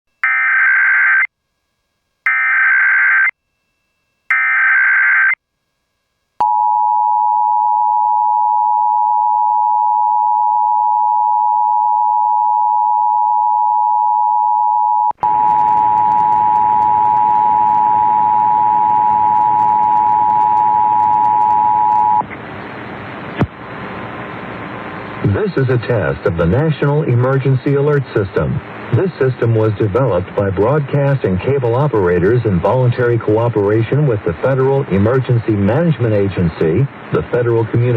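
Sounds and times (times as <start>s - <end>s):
steady dual tone: 5.5s - 37.9s.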